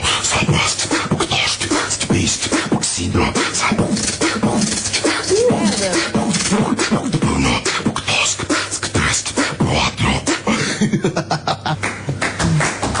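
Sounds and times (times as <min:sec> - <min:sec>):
person beatboxing: 0:00.0 - 0:10.8, 0:11.9 - 0:13.0.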